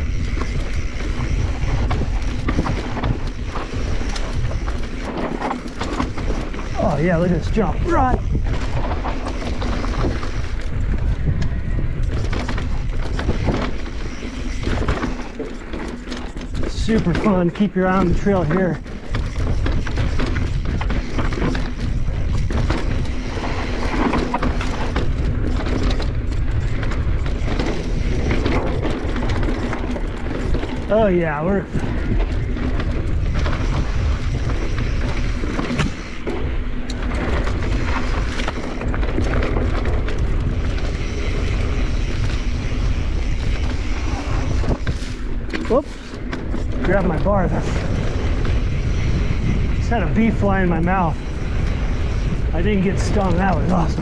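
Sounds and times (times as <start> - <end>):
bike rattling over rocks: 0.0 - 54.0
wind rumbling on microphone: 0.0 - 54.0.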